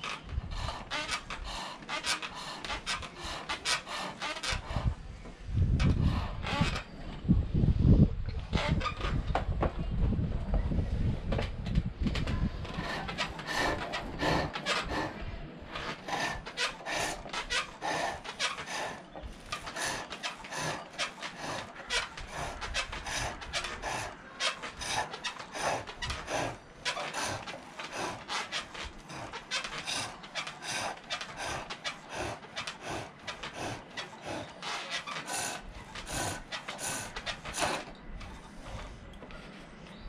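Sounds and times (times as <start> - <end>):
rhythmic scraping cuts on wood: 0.0 - 5.1, 12.2 - 39.8.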